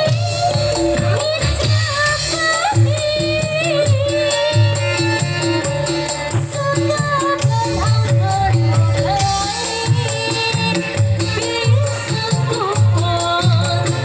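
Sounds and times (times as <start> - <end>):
drum and gong beat: 0.0 - 14.0
reed pipe melody: 0.0 - 14.0.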